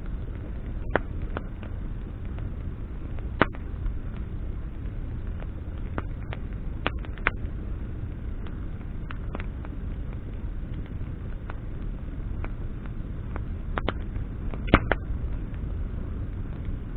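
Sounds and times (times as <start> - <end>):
branches crackling and popping: 0.0 - 16.9
low rush of flame: 0.0 - 16.9.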